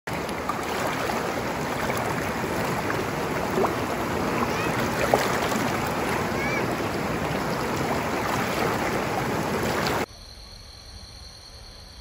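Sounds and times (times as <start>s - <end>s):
river rushing: 0.1s - 10.1s.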